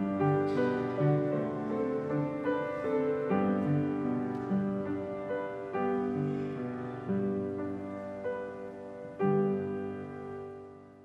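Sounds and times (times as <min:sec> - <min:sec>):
slow gentle piano: 0:00.0 - 0:11.0.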